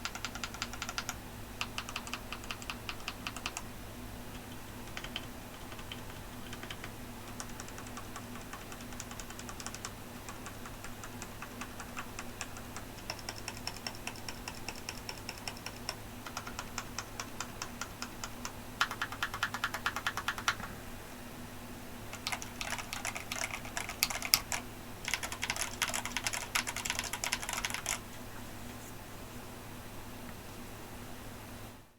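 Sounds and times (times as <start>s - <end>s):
typing on mechanical keyboard: 0.0s - 3.7s, 4.4s - 20.7s, 22.1s - 28.0s.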